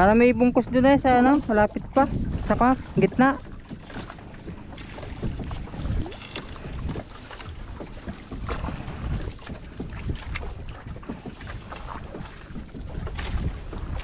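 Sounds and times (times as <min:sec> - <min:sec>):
water lapping against boat hull: 0:00.0 - 0:14.0
wind buffeting microphone: 0:00.0 - 0:14.0.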